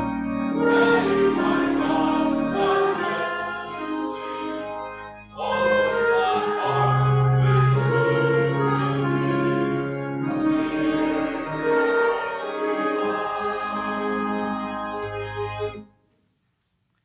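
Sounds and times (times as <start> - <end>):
church organ chords: 0.0 - 15.9.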